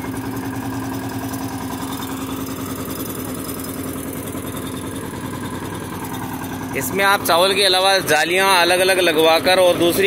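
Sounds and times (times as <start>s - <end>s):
diesel engine chugging: 0.0s - 10.0s
thresher hum: 0.0s - 10.0s.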